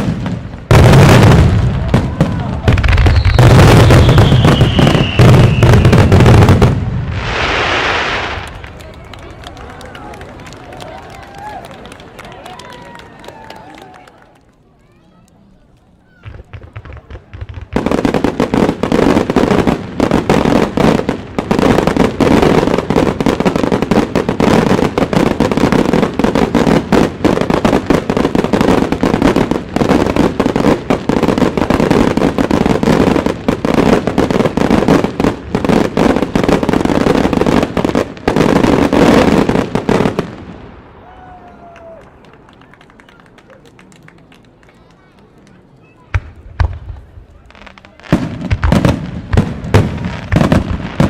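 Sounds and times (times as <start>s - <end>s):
fireworks bangs and crackling: 0.0s - 14.1s, 14.8s - 51.0s.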